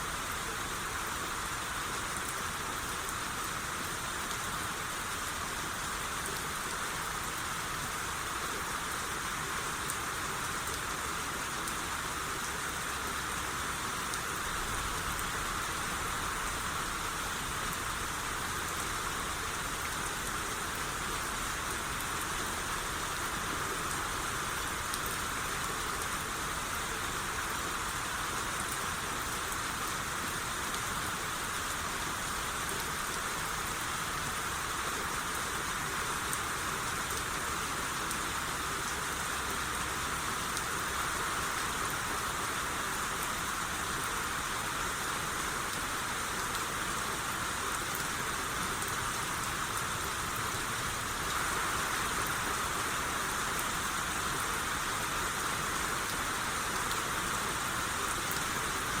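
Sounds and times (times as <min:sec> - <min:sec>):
rain shower hiss: 0:00.0 - 0:59.0.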